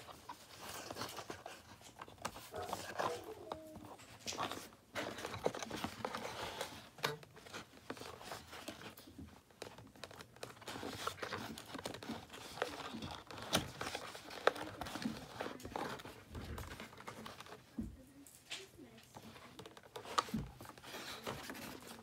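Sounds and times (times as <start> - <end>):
plastic and cardboard crinkling: 0.0 - 22.0
sharp clicks and rustles: 0.0 - 22.0.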